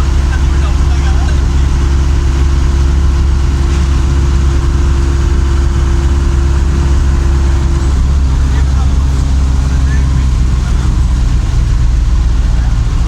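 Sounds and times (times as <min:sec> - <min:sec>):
steady hum: 0:00.0 - 0:13.0
vehicle engine and tyres rumbling: 0:00.0 - 0:13.0.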